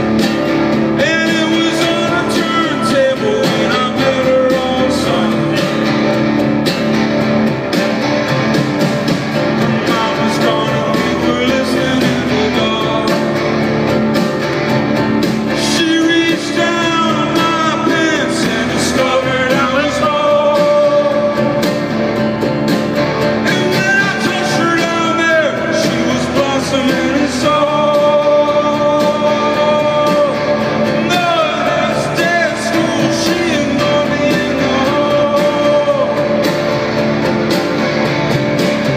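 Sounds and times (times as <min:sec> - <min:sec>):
man singing: 0:00.0 - 0:06.4, 0:09.5 - 0:37.7
acoustic guitar: 0:00.0 - 0:38.9.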